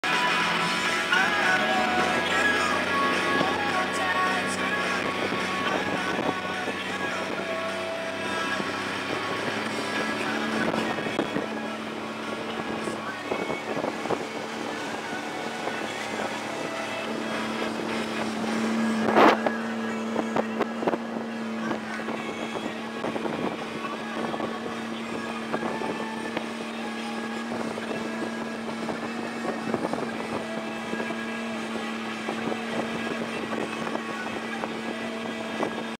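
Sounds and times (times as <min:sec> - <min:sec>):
motorboat engine running: 0:00.0 - 0:36.0
wind on microphone: 0:01.3 - 0:36.0.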